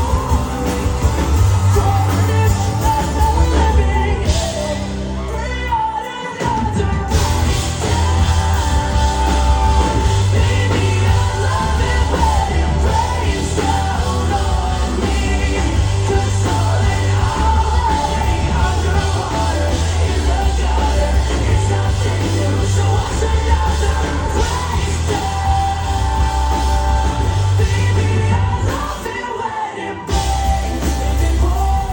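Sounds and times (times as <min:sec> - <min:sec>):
heavy bass: 0:00.0 - 0:05.8, 0:06.6 - 0:29.1, 0:30.1 - 0:31.9
lead singer's vocal: 0:00.0 - 0:31.9
rock band playing: 0:00.0 - 0:31.9.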